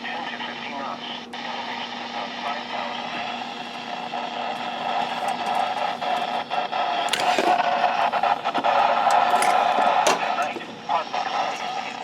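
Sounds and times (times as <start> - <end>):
radio static hiss: 0.0 - 12.0
whining radio tones: 0.0 - 12.0
radio crackles: 0.1 - 12.0.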